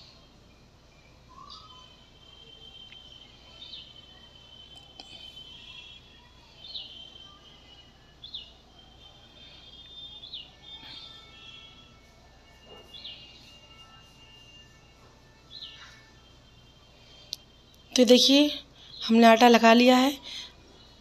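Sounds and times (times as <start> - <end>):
faint bird chirps: 0.0 - 21.0
faint high-pitched drone: 0.0 - 21.0.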